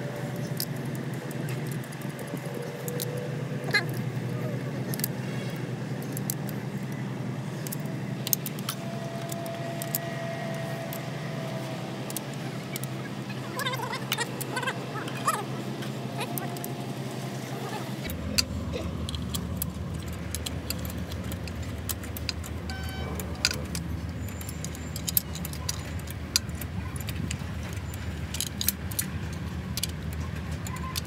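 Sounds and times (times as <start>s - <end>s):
steady low hum: 0.0s - 30.6s.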